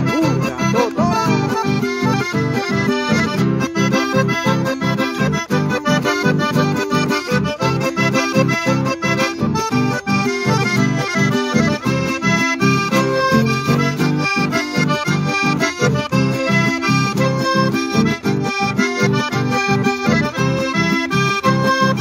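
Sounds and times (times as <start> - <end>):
button accordion playing: 0.0 - 22.0.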